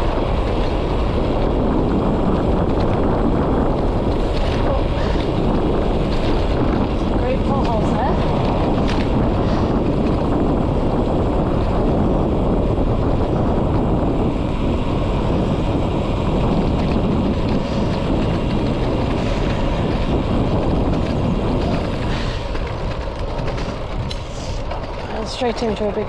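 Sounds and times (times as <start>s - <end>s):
road noise: 0.0s - 26.0s
wind buffeting microphone: 0.0s - 26.0s.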